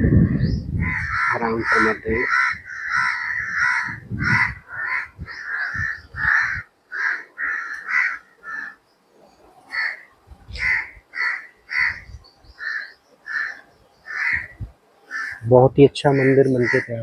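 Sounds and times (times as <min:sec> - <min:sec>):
crows cawing: 0:00.0 - 0:08.8, 0:09.6 - 0:17.0.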